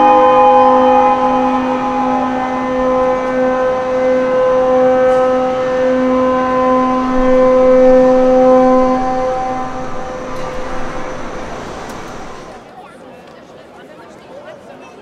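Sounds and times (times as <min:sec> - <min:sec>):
ship horns blowing in chord: 0:00.0 - 0:12.6.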